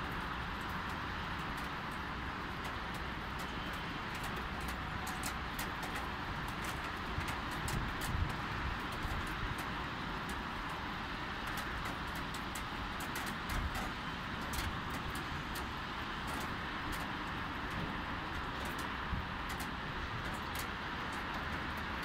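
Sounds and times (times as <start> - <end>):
light rain: 0.0 - 22.0
raindrops ticking close by: 0.0 - 22.0
road traffic: 0.0 - 22.0.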